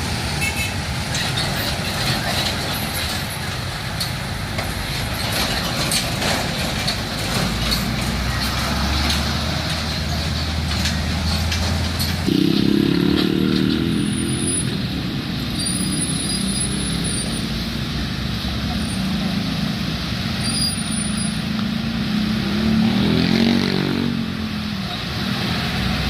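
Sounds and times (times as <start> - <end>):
diesel trucks running: 0.0 - 26.0
heavy road traffic: 0.0 - 26.0.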